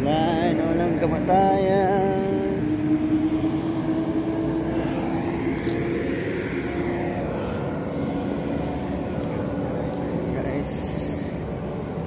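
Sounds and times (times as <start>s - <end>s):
road and wind rush: 0.0s - 12.0s
vehicle engine hum: 0.0s - 12.0s.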